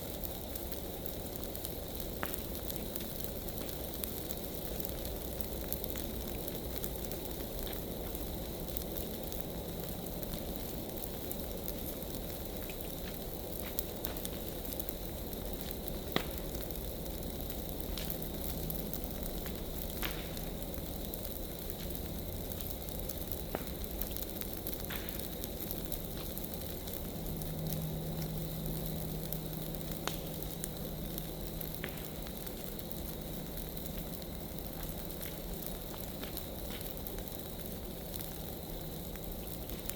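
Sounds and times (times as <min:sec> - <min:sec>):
fire crackles and pops: 0:00.0 - 0:39.9
rush of flame: 0:00.0 - 0:39.9.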